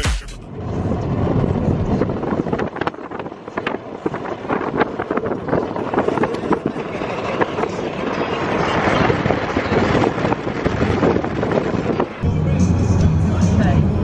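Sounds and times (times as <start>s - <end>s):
road and wind noise in car: 0.0s - 14.0s
wind buffeting on microphone: 0.5s - 12.2s.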